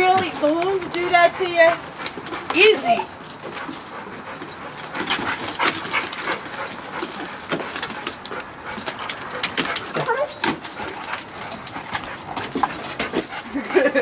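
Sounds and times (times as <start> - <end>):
dog whining: 0.0 - 14.0.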